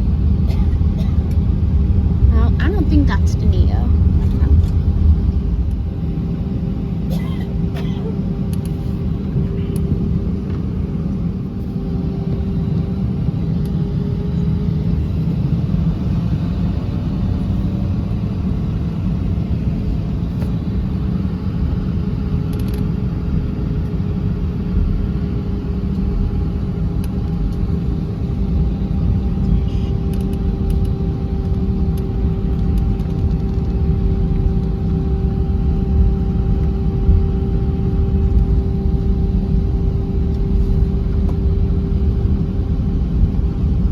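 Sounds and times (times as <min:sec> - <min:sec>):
aircraft engines low rumble: 0:00.0 - 0:43.9
mid-pitched hum: 0:00.0 - 0:43.9.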